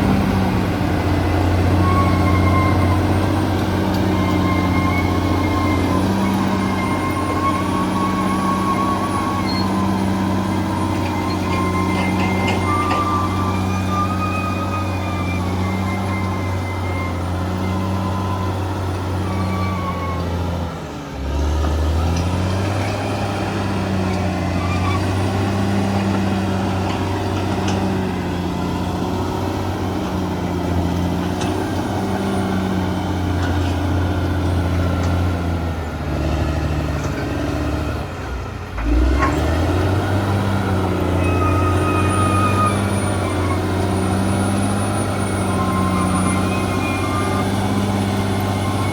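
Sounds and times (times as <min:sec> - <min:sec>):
bulldozer diesel engine: 0:00.0 - 0:48.9.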